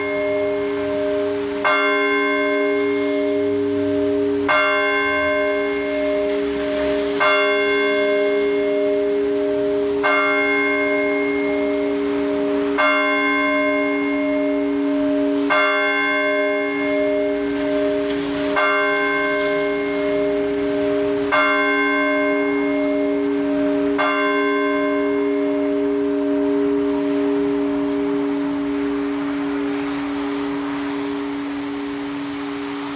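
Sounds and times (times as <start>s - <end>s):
chord of small church bells: 0.0s - 32.9s
large bells humming: 0.0s - 32.9s.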